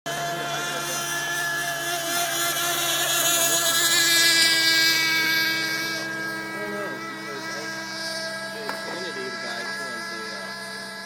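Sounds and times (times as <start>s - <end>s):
model boat motor whine: 0.1s - 11.0s.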